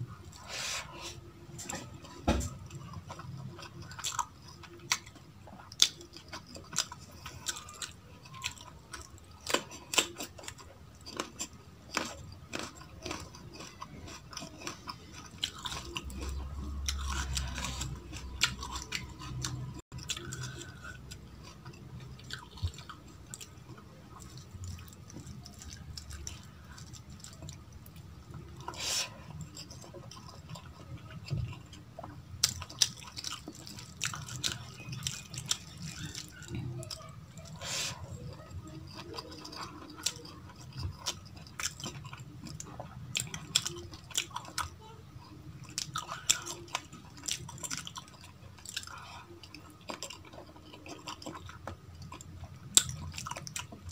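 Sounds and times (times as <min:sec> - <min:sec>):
chewing and wet smacking: 0:01.6 - 0:53.9.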